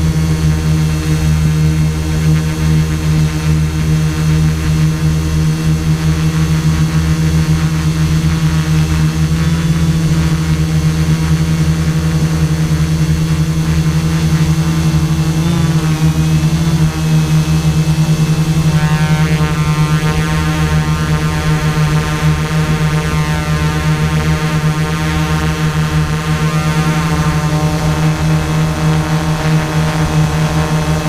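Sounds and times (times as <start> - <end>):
drone propellers humming: 0.0 - 31.0.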